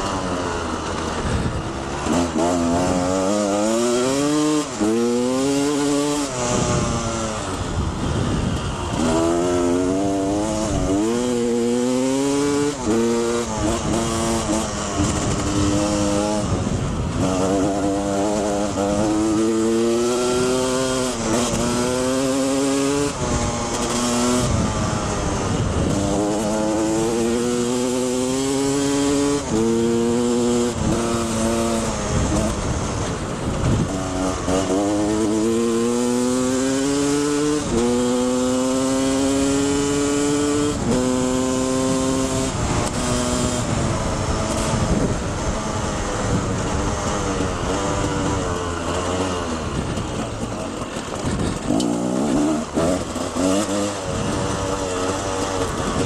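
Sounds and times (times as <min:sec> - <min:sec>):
two-stroke dirt bike accelerating: 0:00.0 - 0:56.0.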